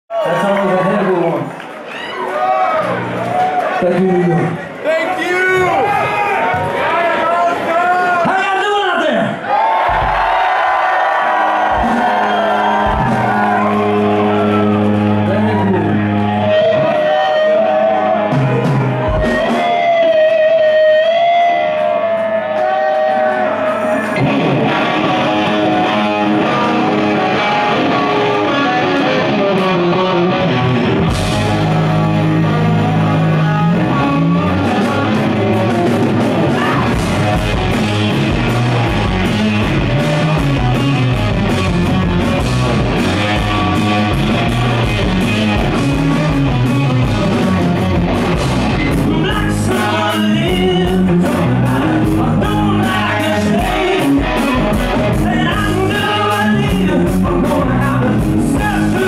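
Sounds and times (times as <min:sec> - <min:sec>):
drums: 0:05.1 - 0:59.0
rock band playing live: 0:09.8 - 0:59.0
electric guitar bending notes: 0:11.6 - 0:59.0.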